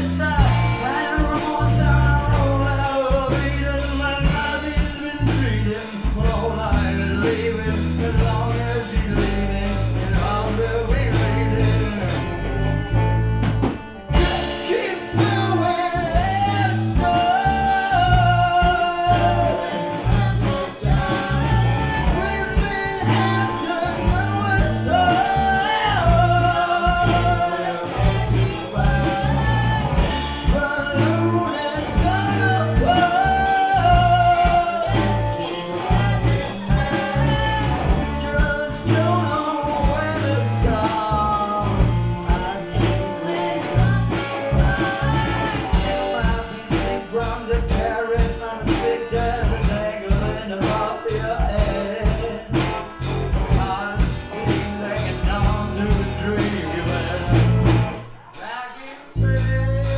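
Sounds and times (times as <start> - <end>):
accordion: 0.0 - 58.2
bass: 0.0 - 59.9
drums keeping steady beat: 0.0 - 59.9
guitar: 0.0 - 59.9
person singing: 0.0 - 59.9.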